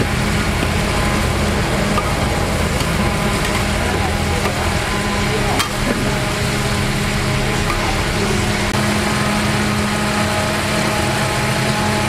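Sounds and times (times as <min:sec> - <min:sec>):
gas burner hum: 0:00.0 - 0:12.0.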